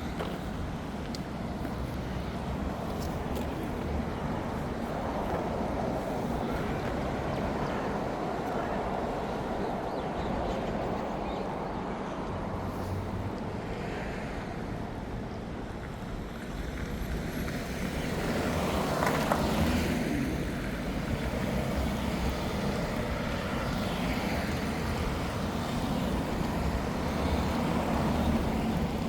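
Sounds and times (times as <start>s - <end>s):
car engines and tyres rumbling: 0.0s - 29.0s.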